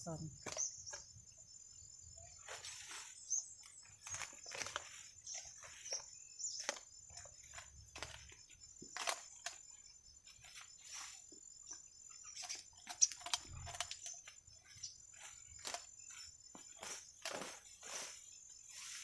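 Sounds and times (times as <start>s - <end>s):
high insect buzz: 0.0s - 19.0s
leaves and stems rustling: 0.4s - 19.0s.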